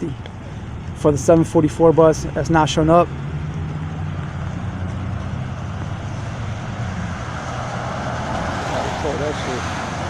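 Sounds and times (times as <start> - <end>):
traffic engine hum: 0.0 - 10.0.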